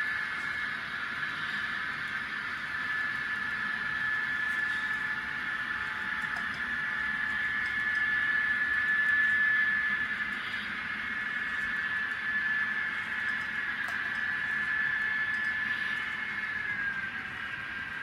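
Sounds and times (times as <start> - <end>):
high motor whine: 0.0 - 18.0.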